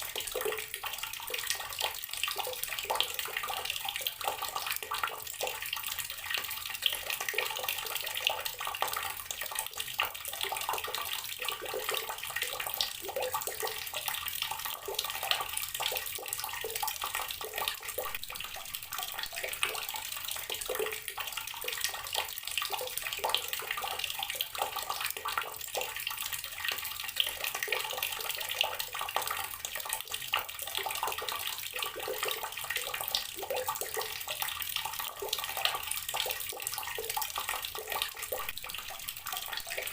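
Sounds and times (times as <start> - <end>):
water tap running and splashing: 0.0 - 39.9.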